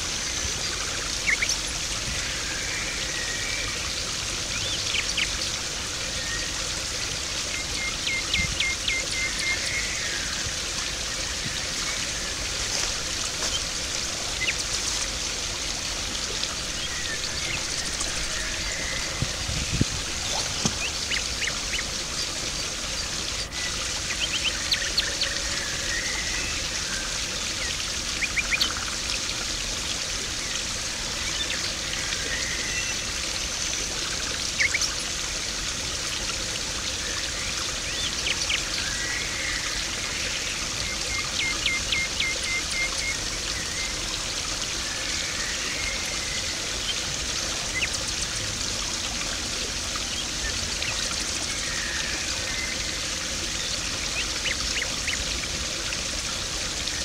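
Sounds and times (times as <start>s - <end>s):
pond water splashing and trickling: 0.0s - 57.0s.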